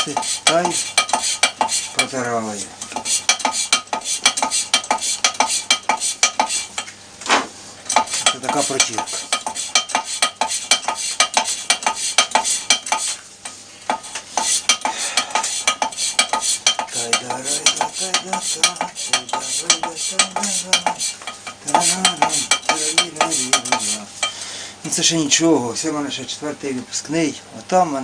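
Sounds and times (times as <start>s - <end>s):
gritty back-and-forth scraping: 0.0s - 6.8s, 8.0s - 24.3s.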